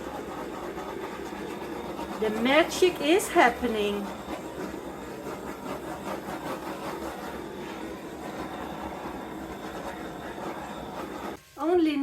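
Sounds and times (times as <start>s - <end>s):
torch flame hissing: 0.0s - 11.8s.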